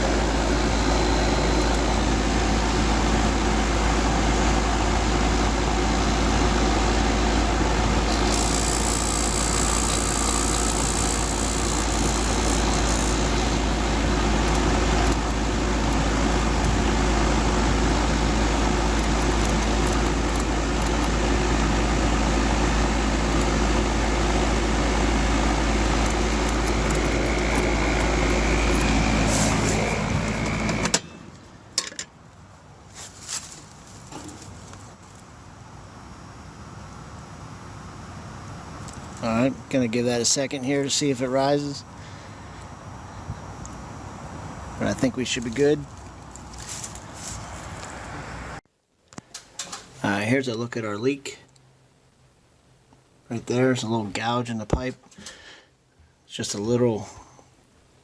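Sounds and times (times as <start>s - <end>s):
air conditioner unit humming: 0.0s - 58.0s.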